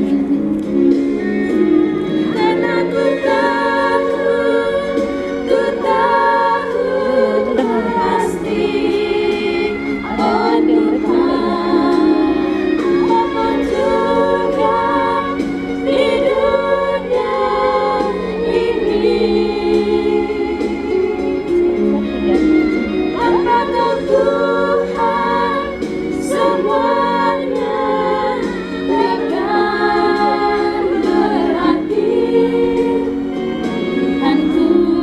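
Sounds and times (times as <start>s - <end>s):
women's choir singing a hymn: 0.0s - 35.0s.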